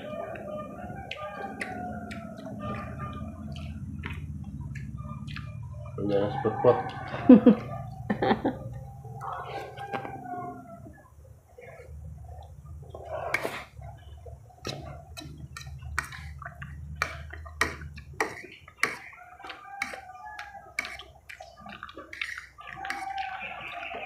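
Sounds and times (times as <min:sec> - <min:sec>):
people chewing with mouth smacks: 0:00.0 - 0:11.0, 0:11.6 - 0:24.0
low background hum: 0:00.0 - 0:19.3.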